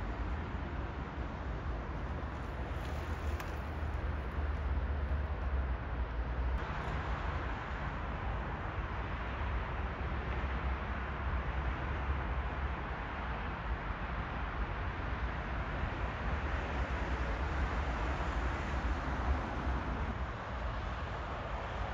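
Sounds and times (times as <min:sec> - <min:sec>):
distant city road traffic: 0:00.0 - 0:21.9.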